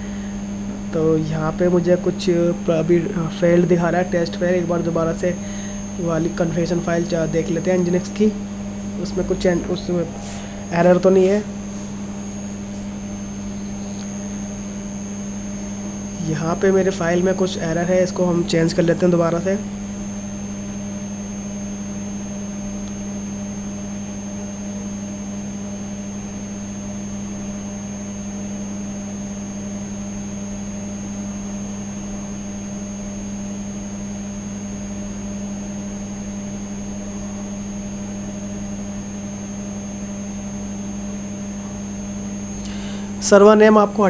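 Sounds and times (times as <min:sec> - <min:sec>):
electrical mains hum: 0:00.0 - 0:44.0
thin high-pitched whine: 0:00.0 - 0:44.0.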